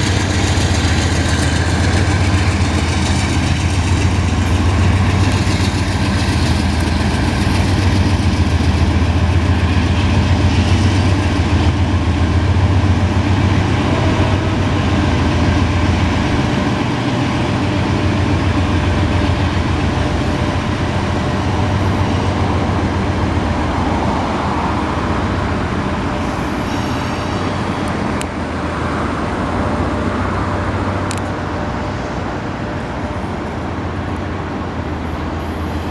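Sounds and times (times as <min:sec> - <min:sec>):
freight train rumbling past: 0:00.0 - 0:35.9.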